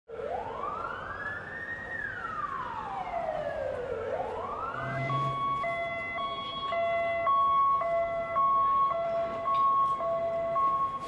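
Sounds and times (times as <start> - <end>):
emergency siren wailing: 0.1 - 11.0
two-tone siren: 0.1 - 11.0.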